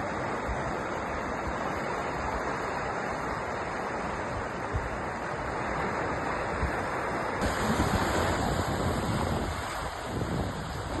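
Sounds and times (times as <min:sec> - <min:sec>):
sea surf washing: 0:00.0 - 0:11.0.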